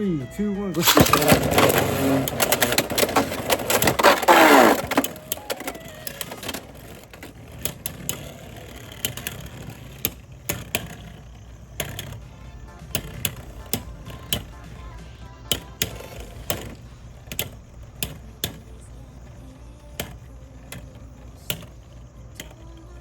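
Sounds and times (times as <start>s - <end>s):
steady whir of spinning tops: 0.0s - 23.0s
spinning tops clacking together: 0.8s - 23.0s.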